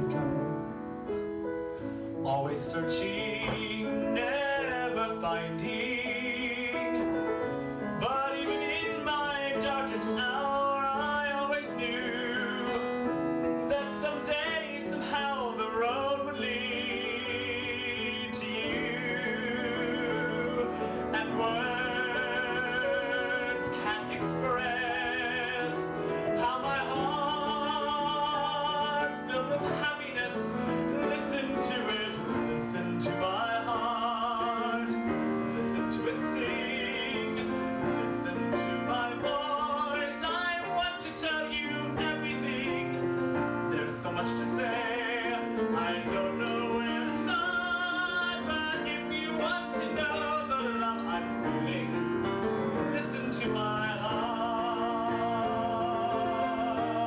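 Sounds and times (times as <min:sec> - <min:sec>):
piano accompaniment: 0:00.0 - 0:57.0
man singing a ballad: 0:02.2 - 0:57.0.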